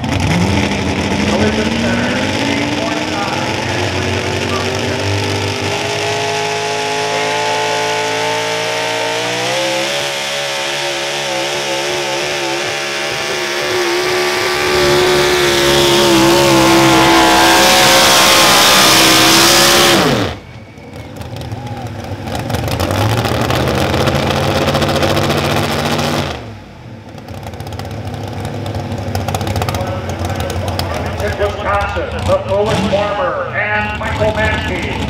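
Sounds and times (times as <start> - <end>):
truck engine running flat out: 0.0 - 35.0.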